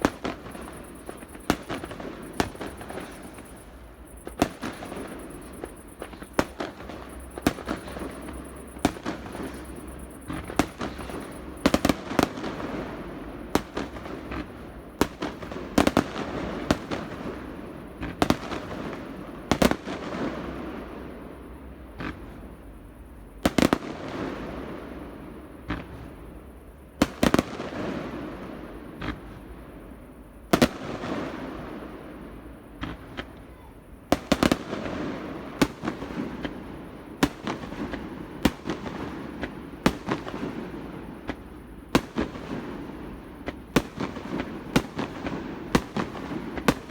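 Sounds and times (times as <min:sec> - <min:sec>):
fireworks bangs and crackle: 0:00.0 - 0:46.9.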